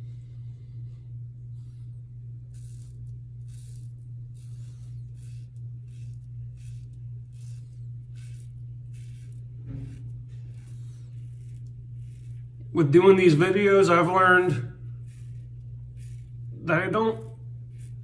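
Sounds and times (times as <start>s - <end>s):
steady low hum: 0.0s - 18.0s
razor scraping stubble: 2.3s - 18.0s.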